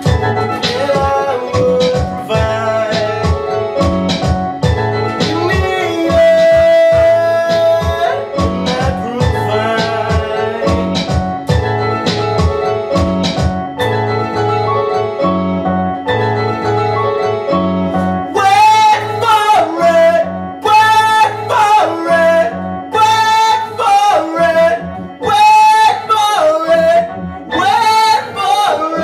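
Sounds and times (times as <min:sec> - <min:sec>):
synthesizer bass and chords: 0:00.0 - 0:29.0.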